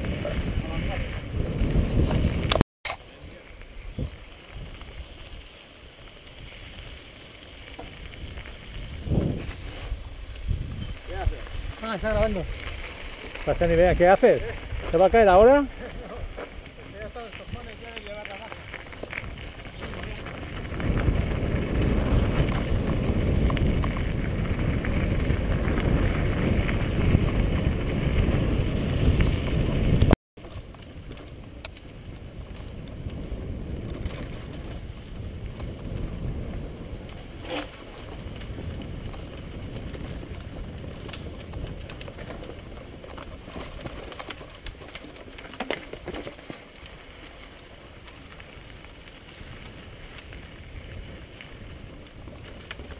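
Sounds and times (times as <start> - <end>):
wind rumble on microphone: 0.0 - 52.9
tyres rattling over gravel: 3.0 - 52.9.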